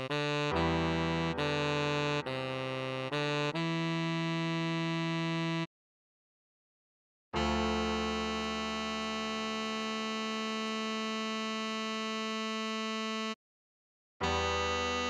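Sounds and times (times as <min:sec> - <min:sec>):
tenor saxophone long notes: 0:00.0 - 0:05.7, 0:07.4 - 0:13.4, 0:14.2 - 0:15.0.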